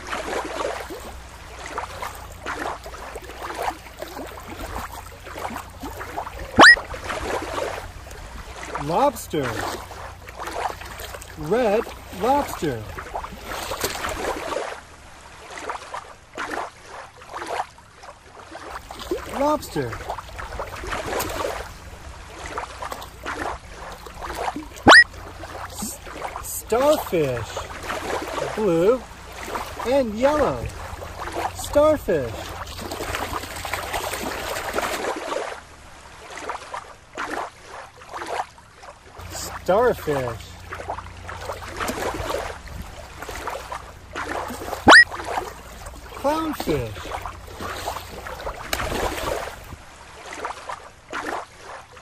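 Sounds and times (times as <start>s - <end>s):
shallow water splashing: 0.0s - 52.0s.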